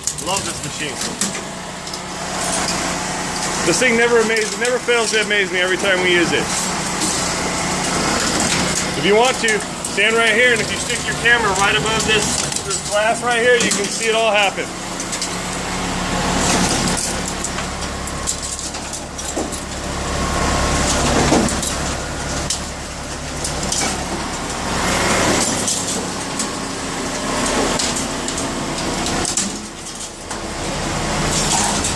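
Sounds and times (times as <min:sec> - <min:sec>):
cutters crunching hard drives: 0:00.0 - 0:31.9
shredder motor humming: 0:00.0 - 0:31.9.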